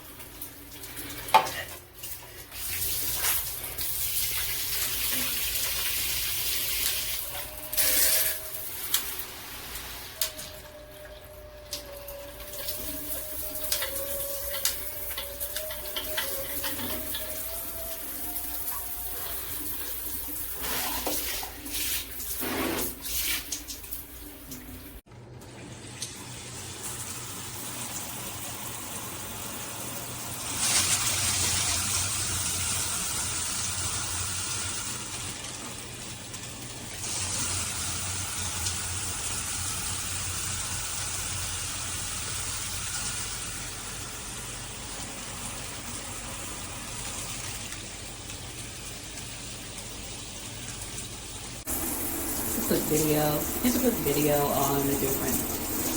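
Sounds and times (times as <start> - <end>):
water spraying from shower head: 1.0 - 24.5, 26.6 - 55.9.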